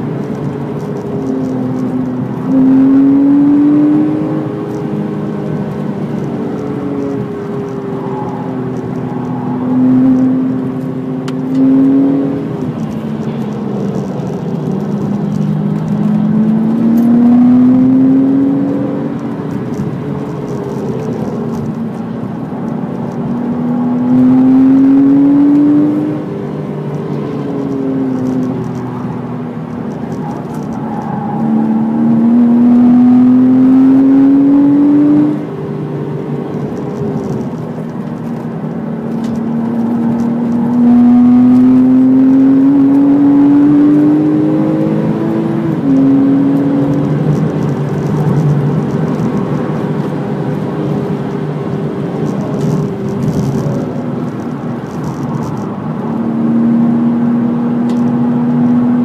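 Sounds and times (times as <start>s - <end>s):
car engine revving high: 0.0s - 35.9s, 38.4s - 59.0s
road and wind noise: 0.0s - 59.0s.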